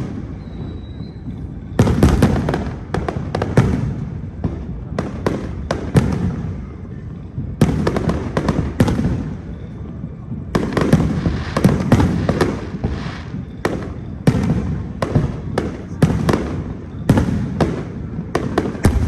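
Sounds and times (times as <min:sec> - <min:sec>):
fireworks bangs: 0:00.0 - 0:19.0
fireworks crackling: 0:00.0 - 0:19.0
fireworks rumble: 0:00.0 - 0:19.0.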